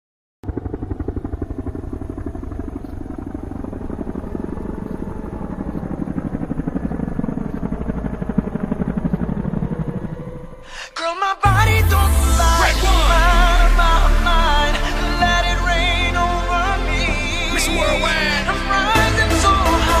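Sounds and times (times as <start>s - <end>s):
helicopter rotor chopping: 0.4s - 10.7s, 11.4s - 20.0s.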